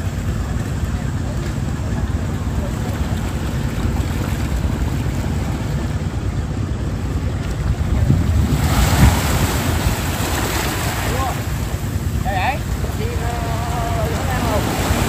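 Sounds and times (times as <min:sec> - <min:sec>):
wave washing over rocky shore: 0:00.0 - 0:15.0
wind rumbling on microphone: 0:00.0 - 0:15.0.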